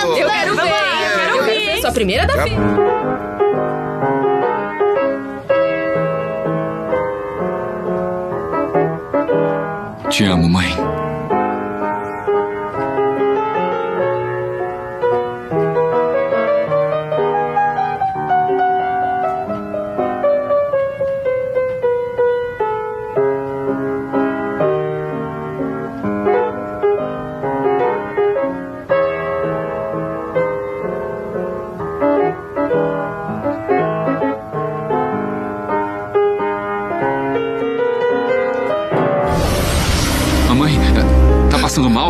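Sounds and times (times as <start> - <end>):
piano duet: 0.0 - 42.0.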